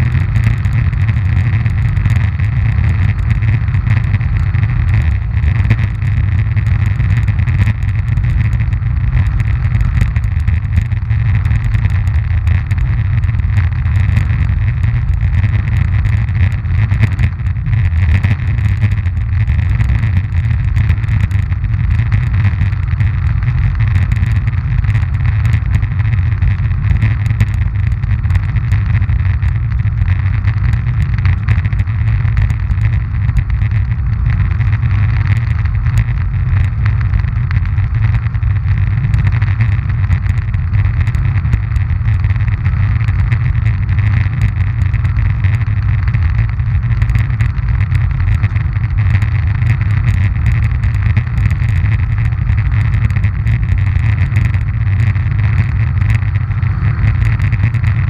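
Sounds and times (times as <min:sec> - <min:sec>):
faint ticks: 0:00.0 - 0:58.0
wheels rolling over asphalt: 0:00.0 - 0:58.0.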